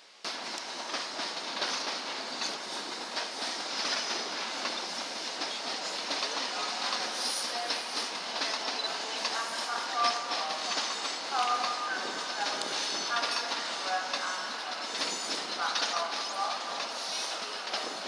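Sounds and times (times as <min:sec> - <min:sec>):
train wheels clacking over joints: 0:00.3 - 0:18.0.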